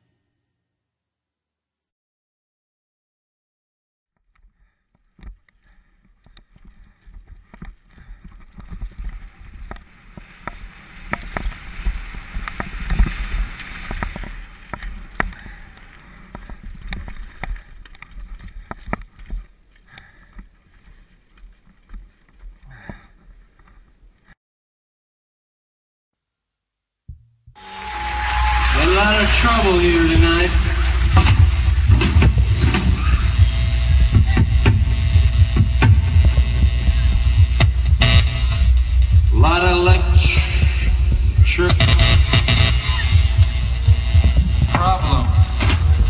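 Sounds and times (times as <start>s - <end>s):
low rumble of bike ride: 4.5s - 24.4s, 27.5s - 46.0s.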